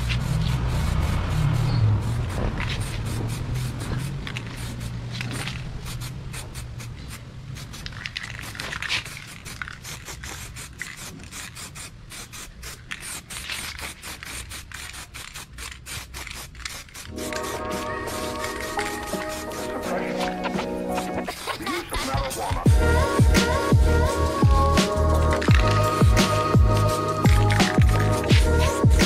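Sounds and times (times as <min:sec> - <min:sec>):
spray can hissing bursts: 0:00.0 - 0:29.0.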